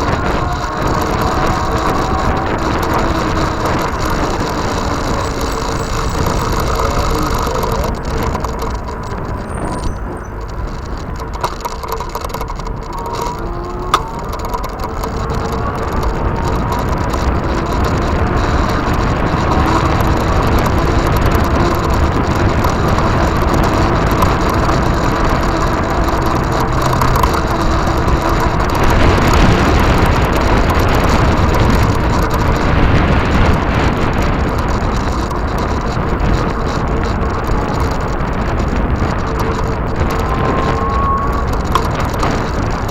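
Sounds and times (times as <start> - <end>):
faint steady whine: 0.0 - 42.9
tyre rumble: 0.0 - 42.9
wind rushing over microphone: 0.0 - 42.9.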